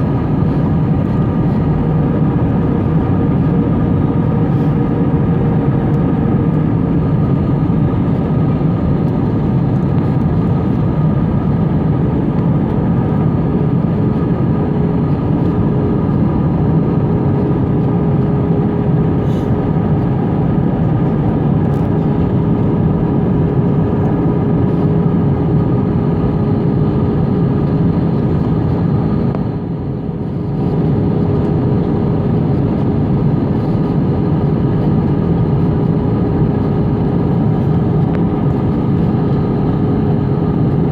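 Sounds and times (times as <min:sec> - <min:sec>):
airliner cabin engine roar: 0:00.0 - 0:40.9.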